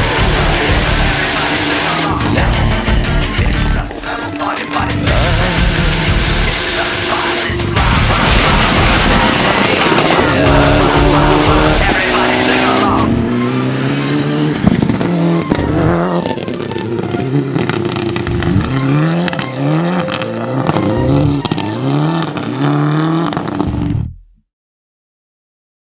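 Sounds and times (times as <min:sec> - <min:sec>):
car engine at full throttle: 0:00.0 - 0:24.3.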